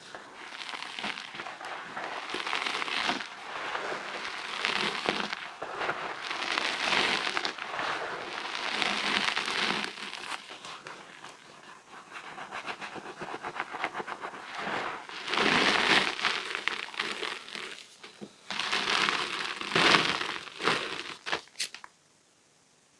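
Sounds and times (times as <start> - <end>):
chalk crunching: 0.0 - 21.8.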